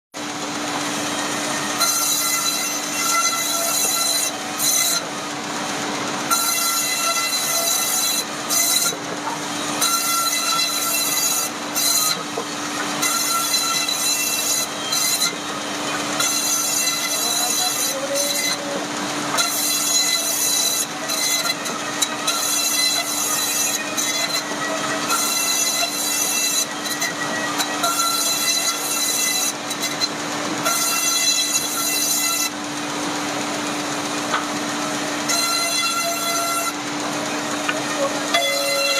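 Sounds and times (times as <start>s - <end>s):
woodworking machine motor hum: 0.2s - 14.1s, 14.7s - 28.9s, 32.5s - 35.3s, 36.2s - 38.6s
high whine of wood cutting: 0.2s - 38.9s.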